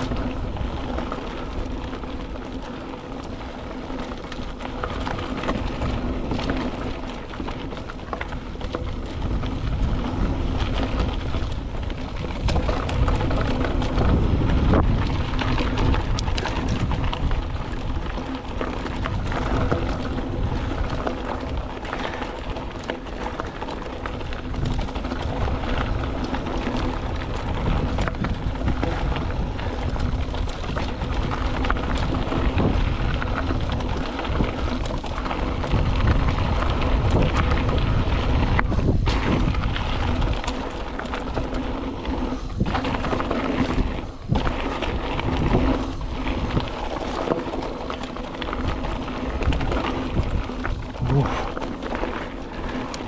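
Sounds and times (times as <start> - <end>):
bike rattling and clicking: 0.0 - 53.0
tyres rushing on dirt and gravel: 0.0 - 53.0
wind buffeting microphone: 0.0 - 53.0.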